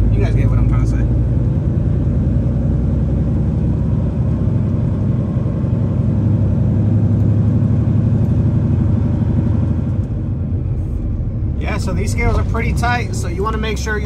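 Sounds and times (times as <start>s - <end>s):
truck diesel engine rumble: 0.0s - 14.0s.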